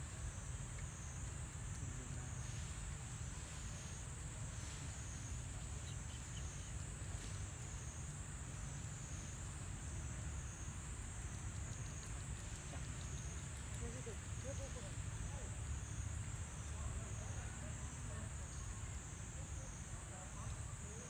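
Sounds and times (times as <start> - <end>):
insects droning: 0.0 - 21.0
low steady rumble: 0.0 - 21.0.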